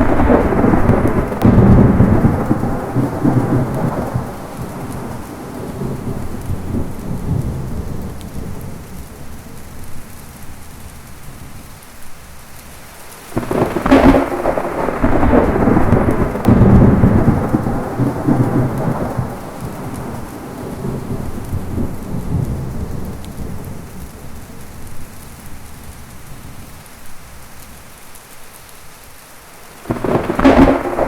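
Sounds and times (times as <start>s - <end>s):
sharp close thunderclap: 0.0s - 11.7s, 13.3s - 26.8s, 29.9s - 31.0s
low thunder rumble: 0.0s - 28.0s, 29.9s - 31.0s
heavy rain: 0.0s - 31.0s.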